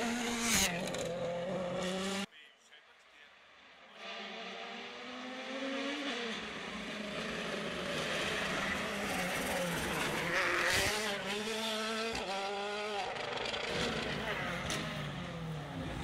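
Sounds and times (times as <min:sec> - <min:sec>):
rally car engine revving: 0:00.0 - 0:02.3, 0:03.9 - 0:16.0.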